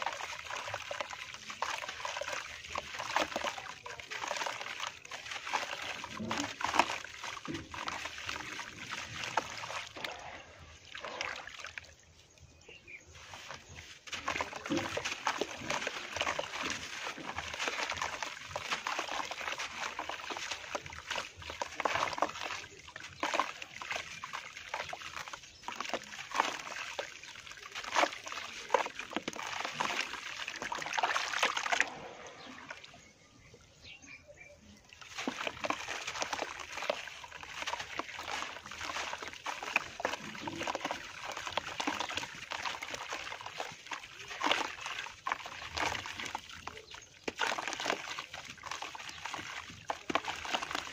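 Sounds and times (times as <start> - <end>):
water sloshing and splashing: 0.0 - 50.9.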